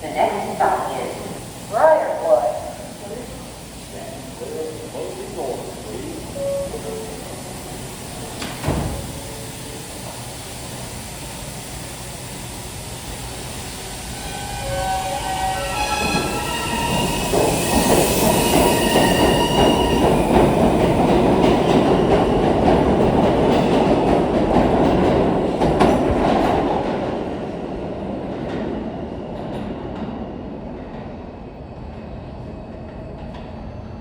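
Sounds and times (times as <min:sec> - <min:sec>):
subway train motors whining: 0:00.0 - 0:34.0
train rumbling past: 0:00.0 - 0:34.0.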